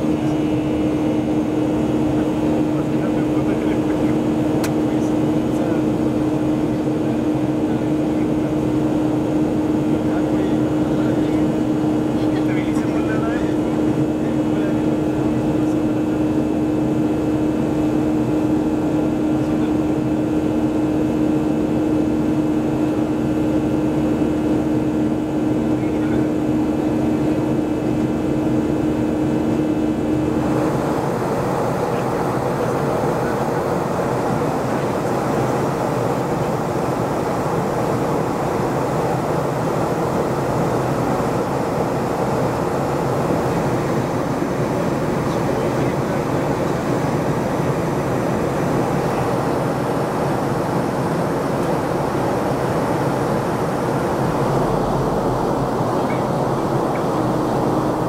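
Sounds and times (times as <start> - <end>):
airplane cabin drone: 0.0 - 58.0
steady hum: 0.0 - 58.0.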